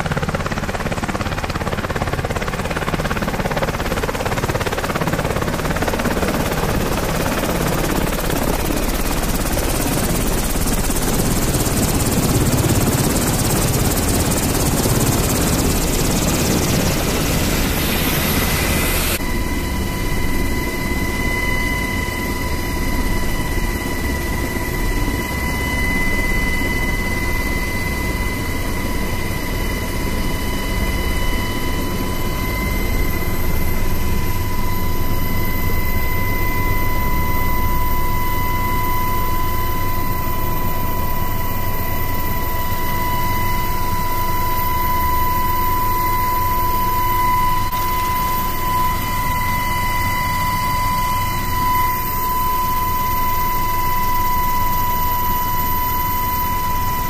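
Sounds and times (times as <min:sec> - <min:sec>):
helicopter cabin rumble: 0:00.0 - 0:57.0
helicopter rotor and turbine roar: 0:00.0 - 0:57.0.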